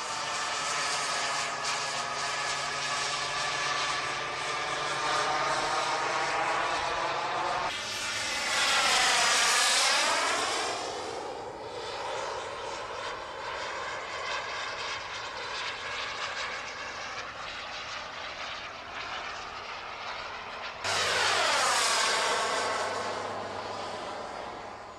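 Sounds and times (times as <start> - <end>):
model jet turbine passing: 0.0 - 24.9.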